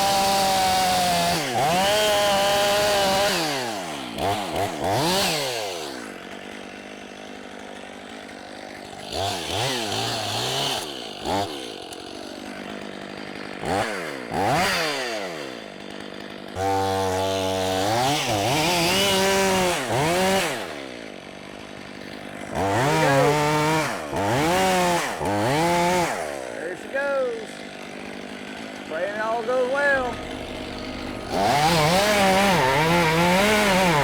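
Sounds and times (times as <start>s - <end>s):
chainsaw revving and idling: 0.0s - 34.0s.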